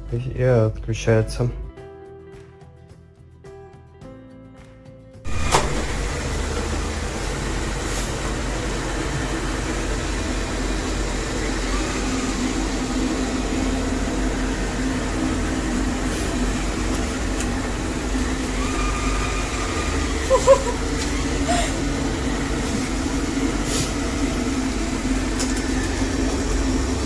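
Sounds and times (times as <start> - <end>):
motor humming with deep rumble: 5.3 - 27.0.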